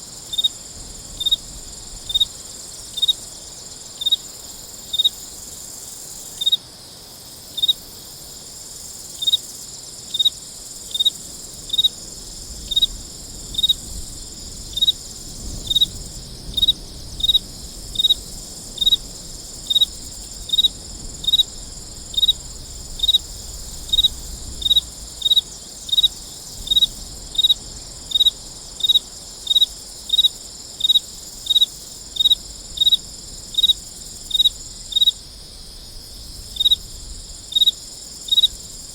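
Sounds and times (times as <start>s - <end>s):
cricket chirping: 0.0s - 38.9s
high insect drone: 0.0s - 38.9s.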